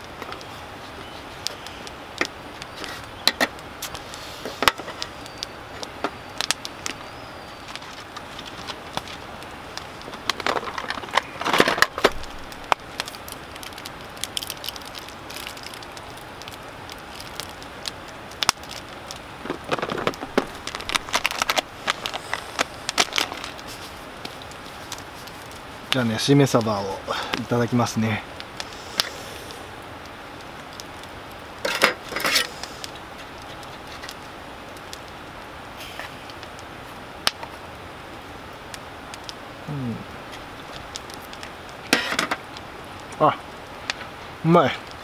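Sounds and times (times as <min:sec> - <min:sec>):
sharp crackles: 0:00.0 - 0:45.0.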